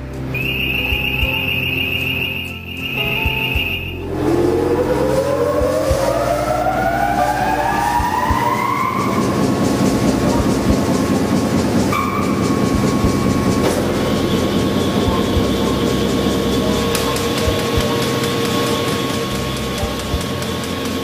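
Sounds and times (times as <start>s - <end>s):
steady hum: 0.0s - 21.0s
rising mechanical whine: 0.2s - 21.0s.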